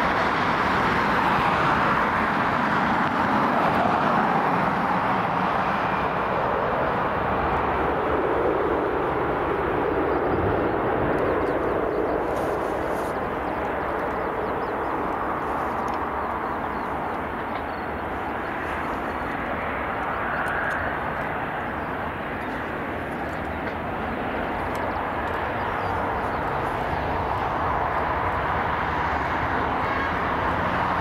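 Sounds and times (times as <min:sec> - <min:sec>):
jet engines taxiing: 0:00.0 - 0:31.0.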